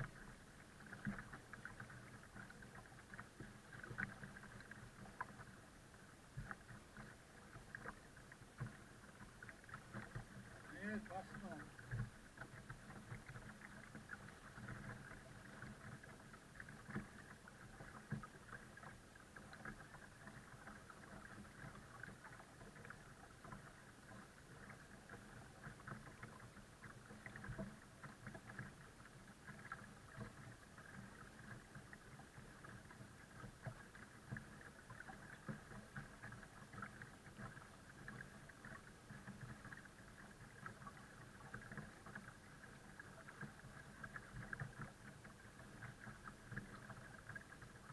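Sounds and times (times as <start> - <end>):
faint steady hum: 0.0 - 47.9
water lapping at kayak hull: 0.0 - 47.9.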